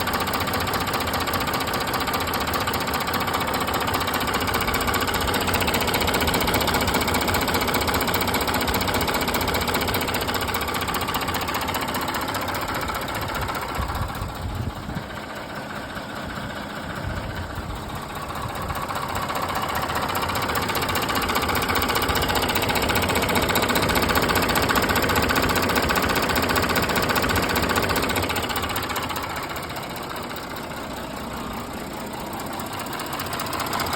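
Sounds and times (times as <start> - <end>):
car engine idling: 0.0 - 33.9
fast engine knocking: 0.0 - 33.9.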